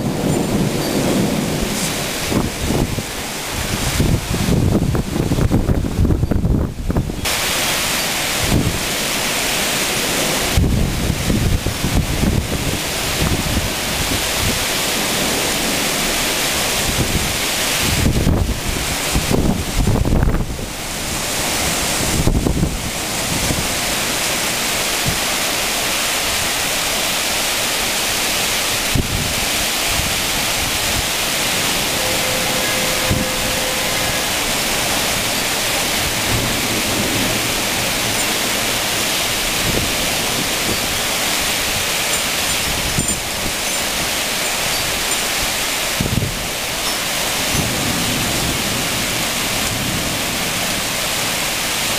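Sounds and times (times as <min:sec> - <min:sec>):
wind buffeting microphone: 0:00.0 - 0:25.6, 0:28.0 - 0:51.9
heavy rain pouring: 0:00.0 - 0:51.9.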